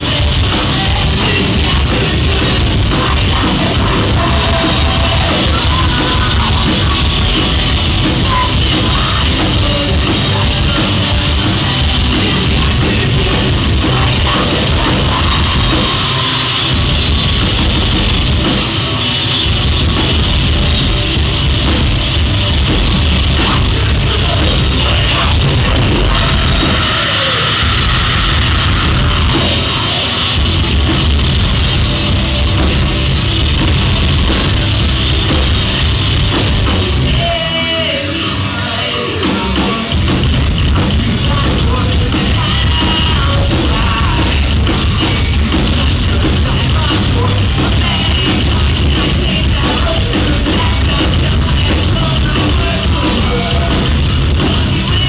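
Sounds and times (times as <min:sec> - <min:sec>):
heavy metal rock music: 0:00.0 - 0:55.0.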